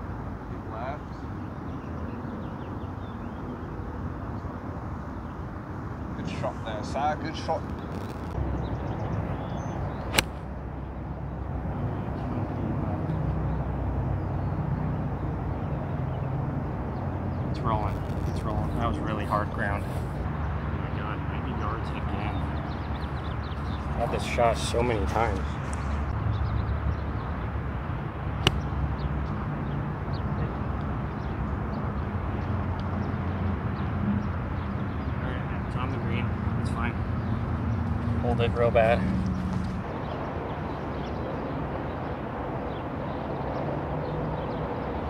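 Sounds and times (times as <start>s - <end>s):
outdoor background rumble: 3.9s - 45.0s.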